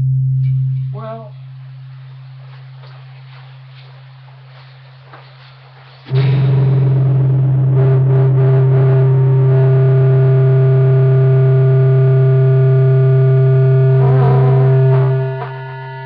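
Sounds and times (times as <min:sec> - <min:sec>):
distorted electric guitar tones: 0:00.0 - 0:05.2, 0:06.1 - 0:16.0
amplifier hum: 0:00.0 - 0:16.0.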